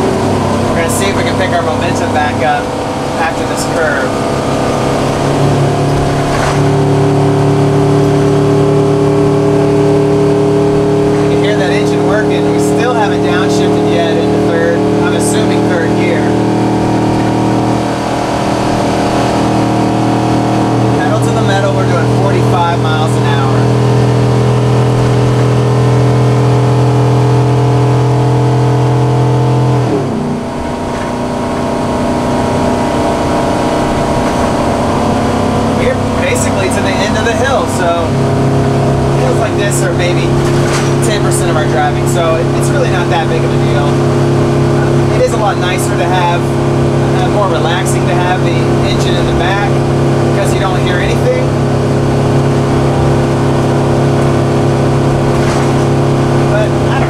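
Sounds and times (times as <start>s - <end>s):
motorhome engine droning: 0.0s - 57.0s.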